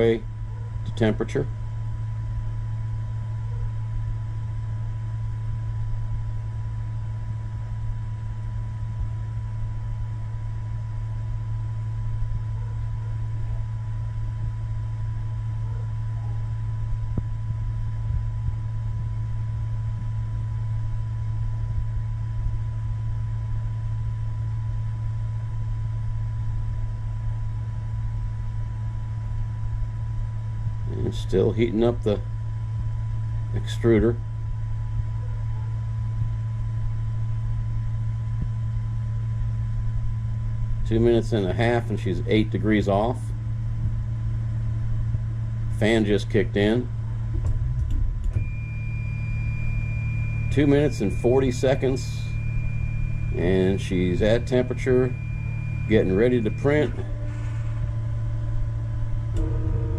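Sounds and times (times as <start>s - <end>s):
thin constant whine: 0.0s - 59.9s.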